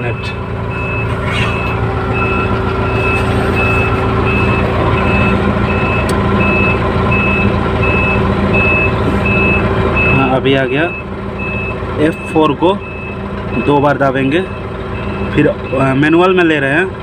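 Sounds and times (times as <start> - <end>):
electronic warning beeps: 0.0 - 13.8, 14.4 - 16.0
diesel engine running: 0.0 - 17.0.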